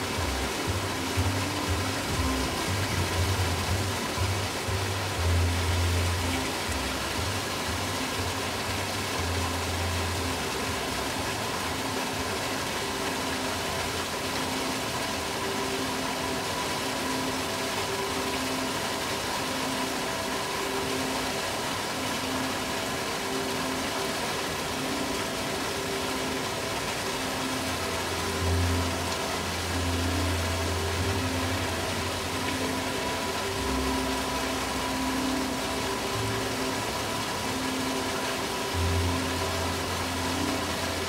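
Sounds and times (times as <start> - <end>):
ambient music: 0.0 - 41.0
falling water rushing: 0.0 - 41.0.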